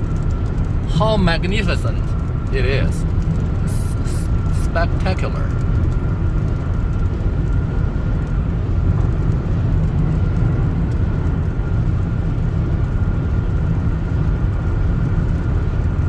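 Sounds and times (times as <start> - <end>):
car cabin driving rumble: 0.0 - 16.0.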